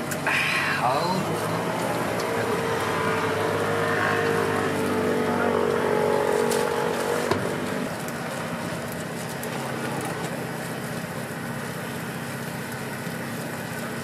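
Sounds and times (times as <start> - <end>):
continuous hiss: 0.0 - 14.0
passing vehicle engine hum: 0.0 - 14.0.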